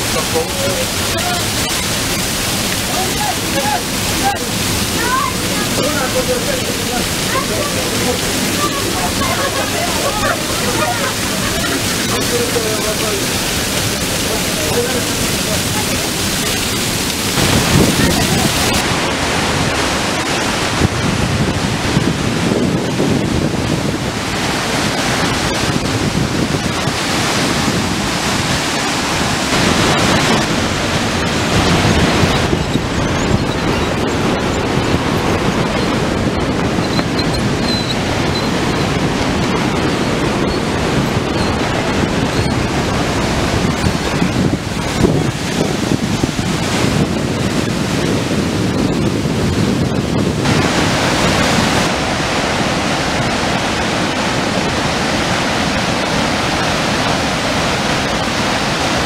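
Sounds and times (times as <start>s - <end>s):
waterfall roaring: 0.0s - 59.0s
white water rushing: 0.0s - 59.0s.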